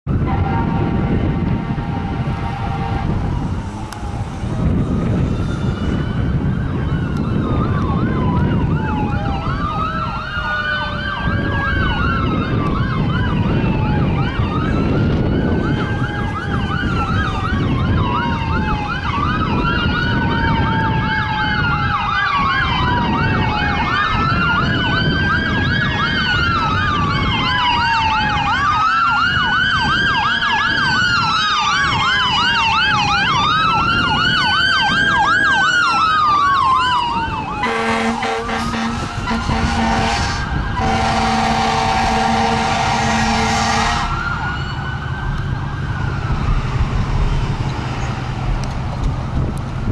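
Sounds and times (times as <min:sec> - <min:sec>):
fire engine siren wailing and yelping: 0:00.1 - 0:49.9
truck and traffic rumble: 0:00.1 - 0:49.9.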